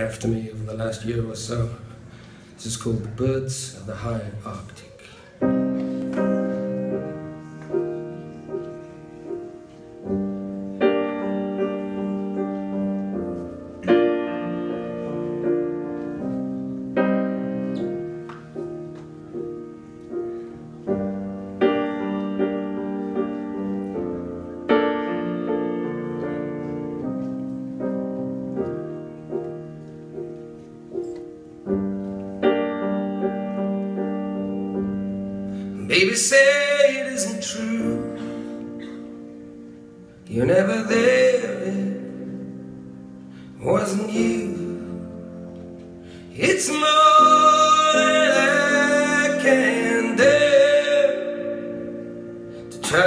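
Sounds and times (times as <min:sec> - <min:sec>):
solo piano chords: 0:00.0 - 0:53.0.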